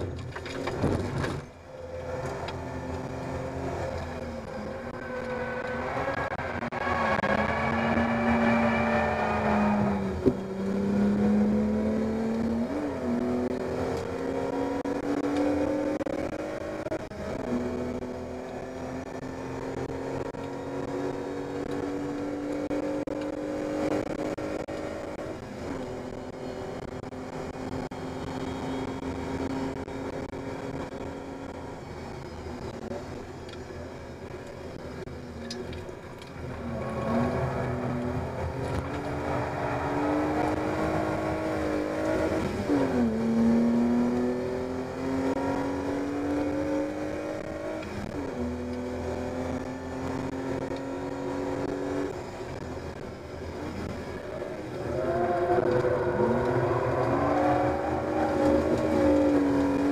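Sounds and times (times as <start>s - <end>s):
car engine revving in cabin: 0.0s - 59.9s.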